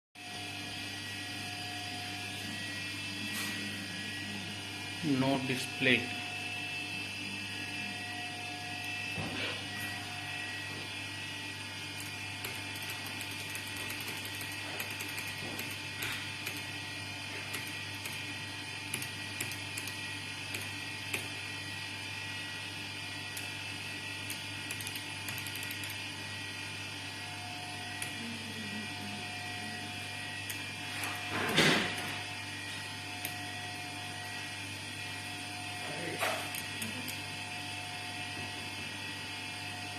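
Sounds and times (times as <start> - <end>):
machine electrical hum and whine: 0.2 - 39.9.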